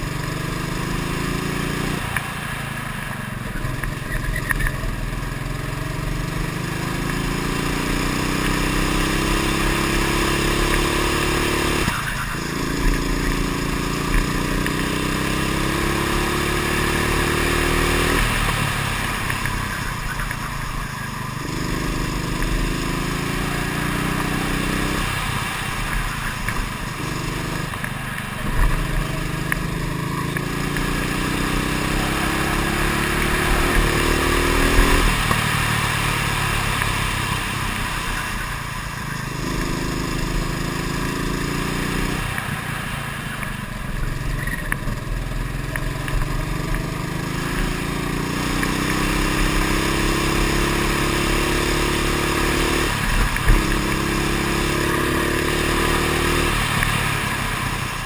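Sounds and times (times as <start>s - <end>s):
kart engine revving: 0.0s - 58.0s
road noise: 0.0s - 58.0s.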